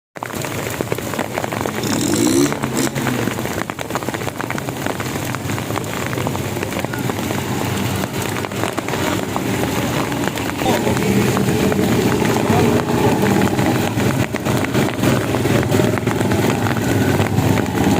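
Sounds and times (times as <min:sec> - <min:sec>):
raindrops ticking: 0:00.2 - 0:17.9
vehicle engines: 0:00.2 - 0:17.9.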